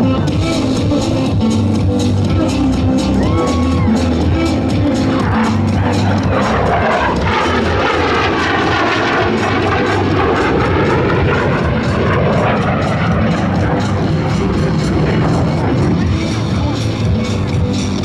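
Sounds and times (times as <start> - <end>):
jet engine roaring: 0.0 - 18.0.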